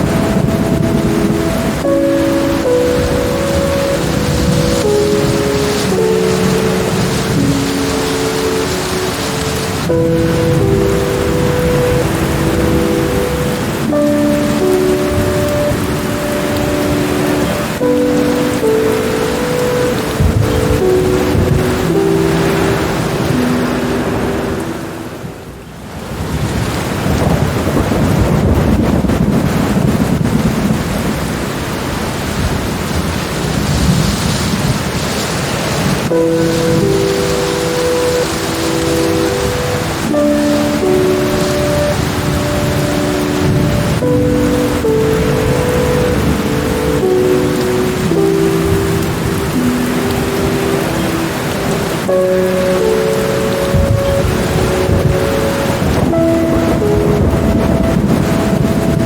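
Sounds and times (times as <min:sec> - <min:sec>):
soft sustained musical notes: 0:00.0 - 0:25.8, 0:35.8 - 0:59.0
rolling thunder: 0:00.0 - 0:59.0
steady rain falling: 0:00.0 - 0:59.0.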